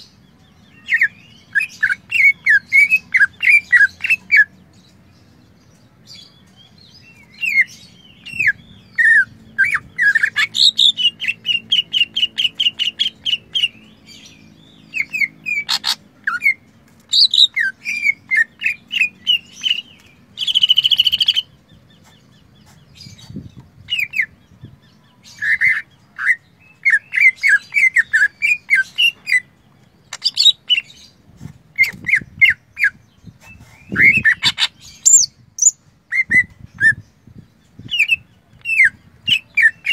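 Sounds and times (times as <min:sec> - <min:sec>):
bird singing whistled chirped song: 0:00.0 - 0:04.6, 0:06.2 - 0:21.5, 0:23.1 - 0:29.5, 0:31.8 - 0:39.9.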